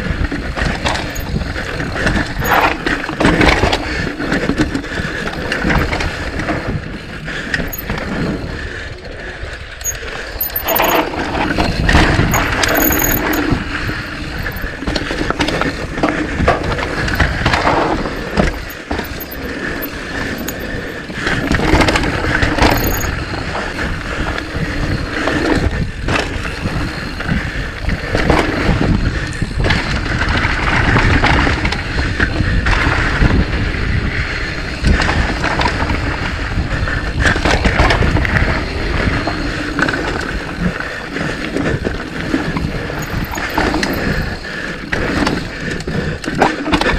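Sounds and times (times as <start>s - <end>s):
bike chain and frame clatter: 0.0s - 46.9s
bike tyres rumbling over dirt: 0.0s - 46.9s.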